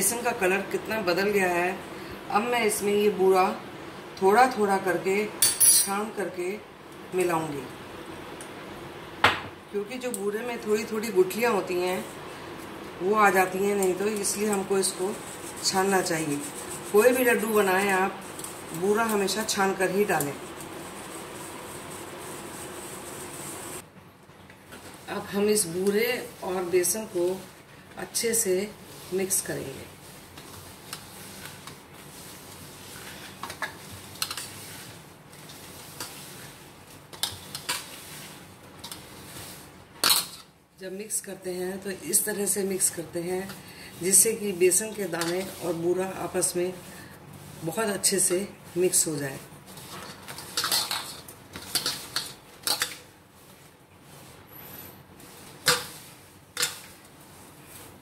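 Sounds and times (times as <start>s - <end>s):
hands mixing flour on steel plate: 10.6s - 23.8s, 24.6s - 58.0s.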